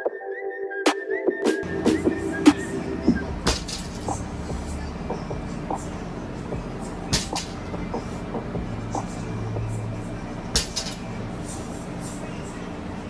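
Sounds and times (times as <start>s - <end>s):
low hum: 1.6s - 13.0s.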